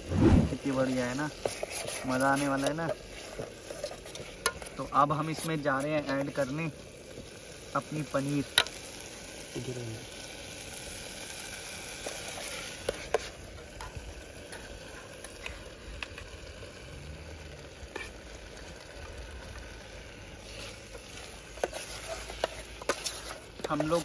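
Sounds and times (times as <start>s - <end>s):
gravy sizzling in a pan: 0.0s - 24.0s.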